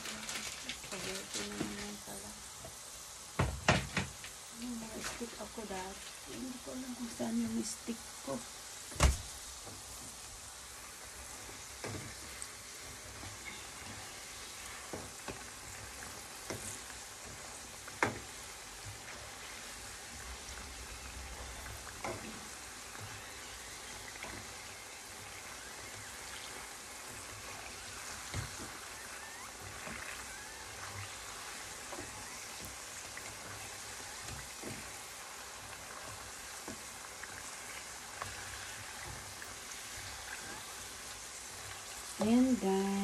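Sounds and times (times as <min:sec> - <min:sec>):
food deep-frying in oil: 0:00.0 - 0:43.0.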